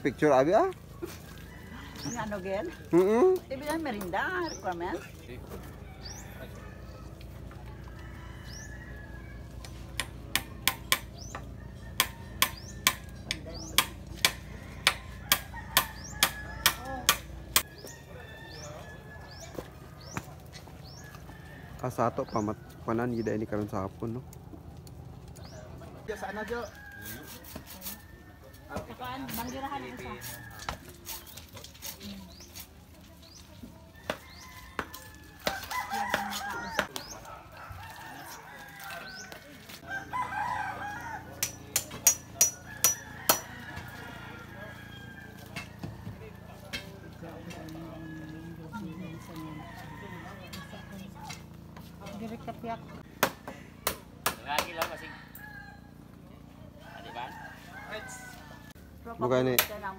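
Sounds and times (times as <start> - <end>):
rooster crowing: 1.0 - 3.0, 5.4 - 13.2, 14.2 - 23.2, 26.1 - 31.2, 33.8 - 52.8, 53.5 - 59.2.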